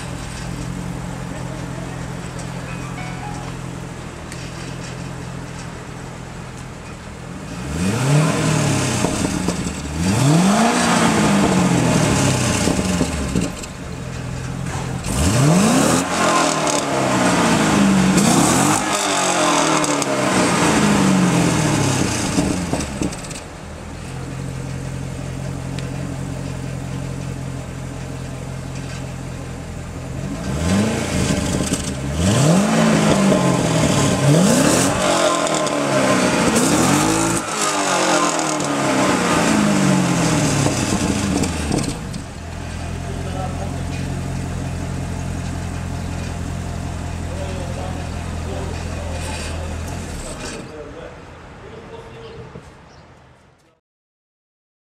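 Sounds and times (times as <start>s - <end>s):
car engine idling and revving: 0.0s - 51.5s.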